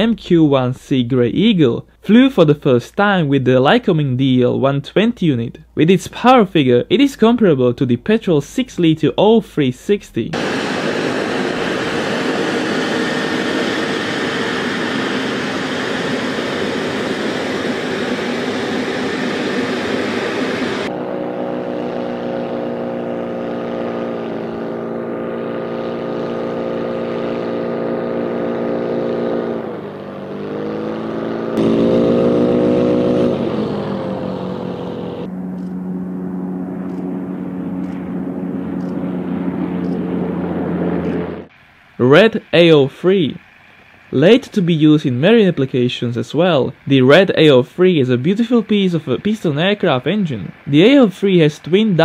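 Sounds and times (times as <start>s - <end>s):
propeller engine droning: 10.3s - 52.0s.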